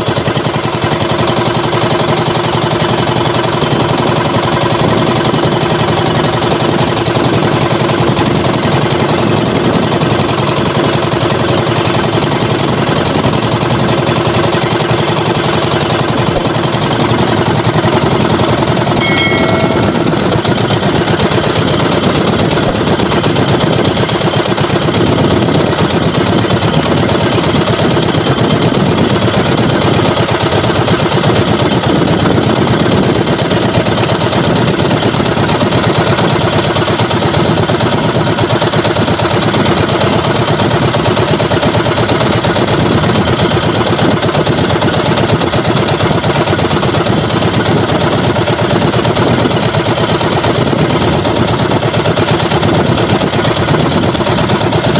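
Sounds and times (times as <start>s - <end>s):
boat engine idling: 0.0s - 54.9s.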